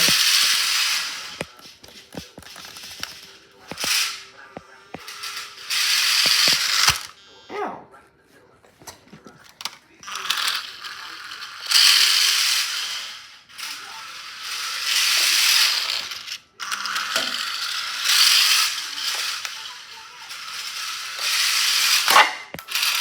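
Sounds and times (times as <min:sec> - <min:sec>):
toy truck motor whirring: 0:00.0 - 0:07.2, 0:09.6 - 0:23.0.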